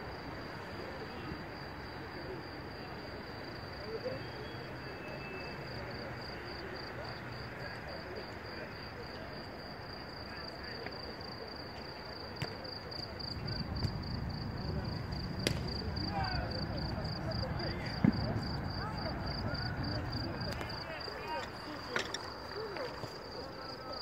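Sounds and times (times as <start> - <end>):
crickets chirring: 0.0 - 24.0
murmur of distant voices: 0.0 - 24.0.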